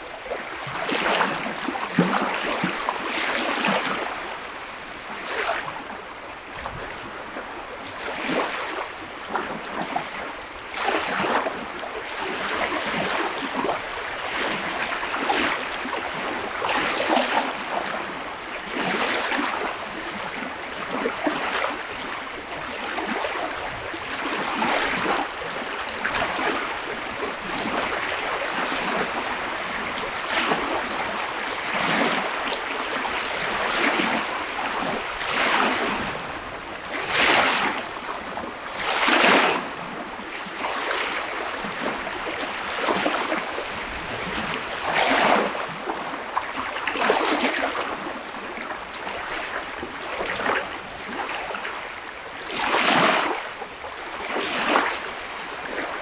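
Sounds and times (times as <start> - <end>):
waves washing up a beach: 0.0 - 56.0.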